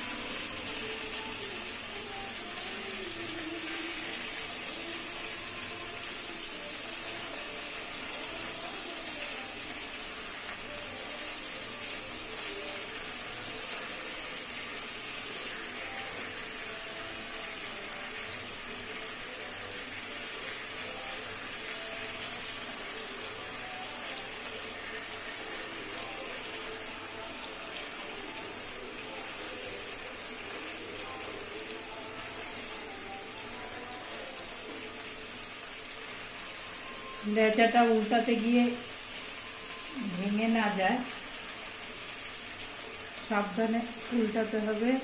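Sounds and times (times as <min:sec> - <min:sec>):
fish sizzling in hot oil: 0:00.0 - 0:45.0.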